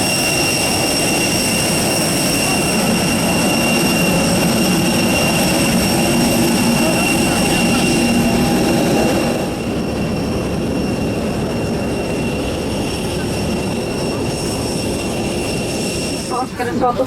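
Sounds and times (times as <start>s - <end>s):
airliner cabin rushing hum: 0.0s - 17.0s
thin high whine: 0.0s - 17.0s.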